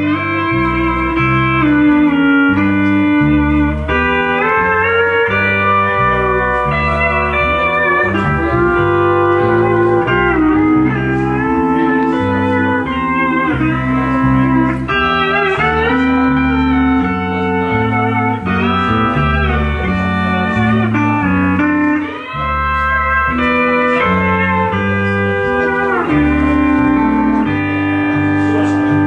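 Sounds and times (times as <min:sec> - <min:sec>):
bass notes: 0:00.0 - 0:29.0
pedal steel guitar: 0:00.0 - 0:29.0.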